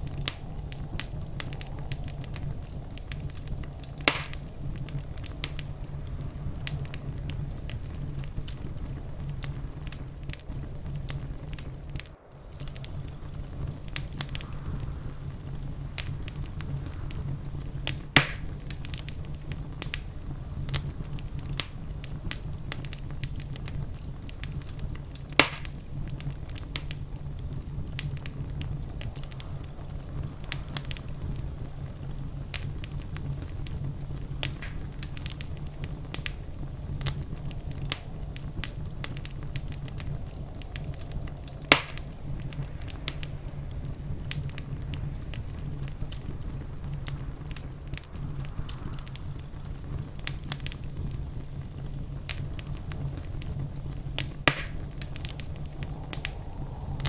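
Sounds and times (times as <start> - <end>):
loud sharp pops of fire: 0.0 - 57.0
wood fire crackling: 0.0 - 57.0.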